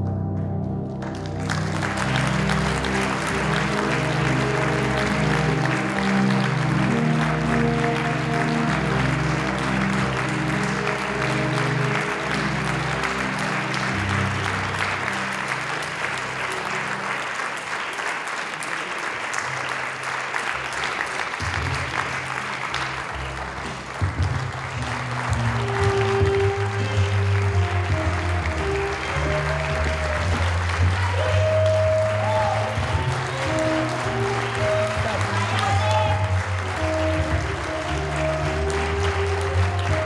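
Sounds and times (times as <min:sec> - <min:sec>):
audience applauding: 0:00.9 - 0:40.0.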